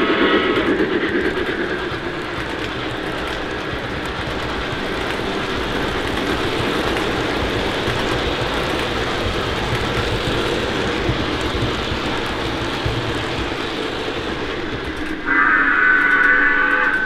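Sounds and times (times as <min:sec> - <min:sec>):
model steam locomotive running: 0:00.0 - 0:17.0.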